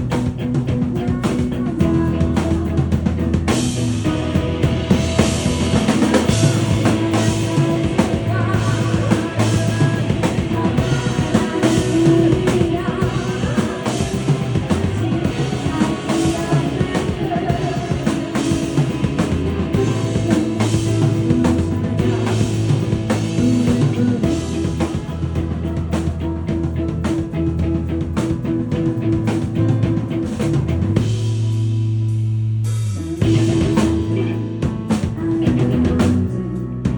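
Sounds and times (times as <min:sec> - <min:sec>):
person singing: 0:00.0 - 0:27.4, 0:33.0 - 0:36.9
live rock band playing: 0:00.0 - 0:36.9.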